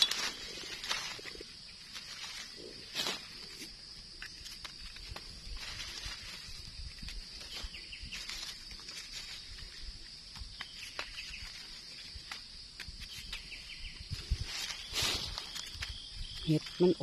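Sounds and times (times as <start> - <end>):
dry leaves and twigs crackling: 0.0 - 17.0.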